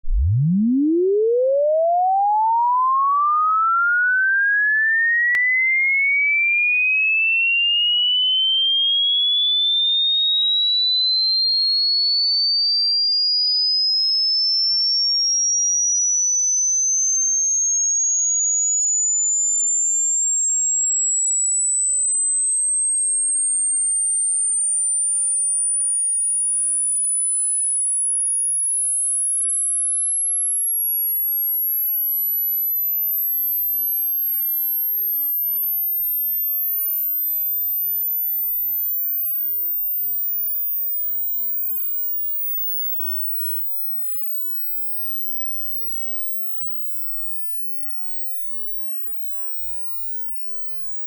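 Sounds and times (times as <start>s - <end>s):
sine tone rising in pitch: 0.0s - 51.0s.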